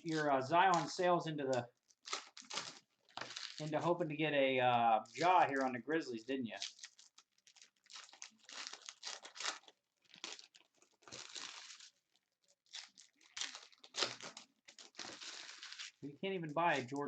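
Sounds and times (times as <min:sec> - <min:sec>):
plastic wrappers crinkling and tearing: 0:00.0 - 0:04.0, 0:05.0 - 0:16.0, 0:16.6 - 0:17.0.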